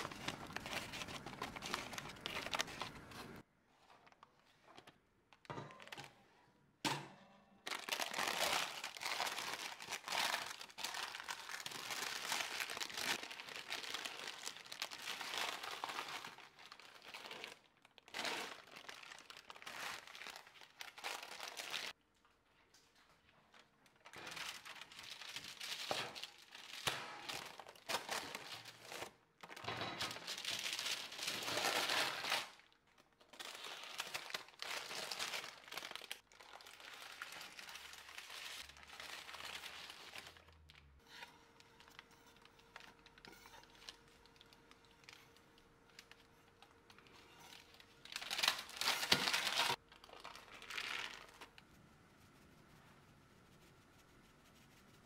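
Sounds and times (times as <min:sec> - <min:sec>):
crinkling handling noises: 0:00.0 - 0:06.4, 0:07.6 - 0:52.8.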